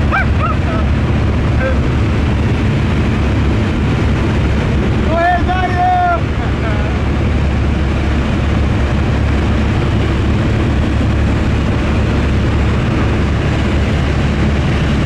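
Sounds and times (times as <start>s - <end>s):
propeller plane engine drone: 0.0s - 15.0s
wide rushing noise: 0.0s - 15.0s.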